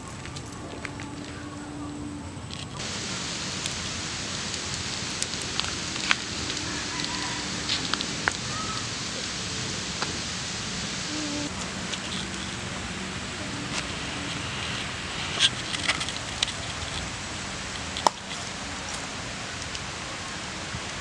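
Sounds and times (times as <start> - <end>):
wood fire crackling and hissing: 0.0 - 21.0
fire popping: 2.5 - 21.0.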